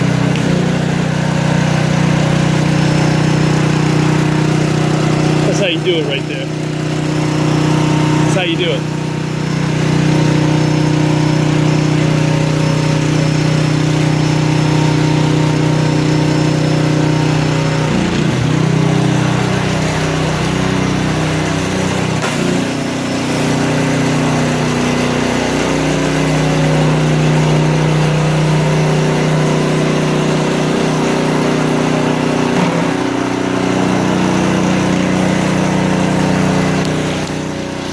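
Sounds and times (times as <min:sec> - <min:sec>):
small gas engine running: 0:00.0 - 0:37.9
water spray hissing: 0:00.0 - 0:37.9.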